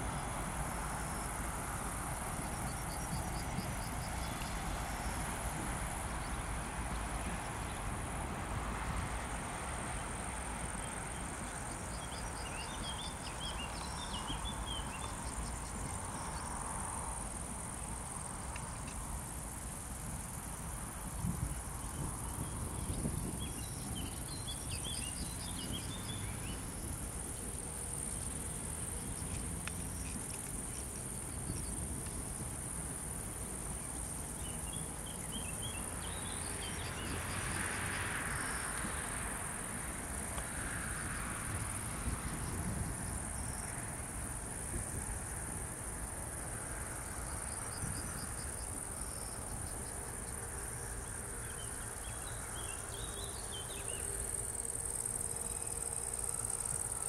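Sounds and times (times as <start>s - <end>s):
insects chirring: 0.0s - 8.2s, 8.8s - 57.0s.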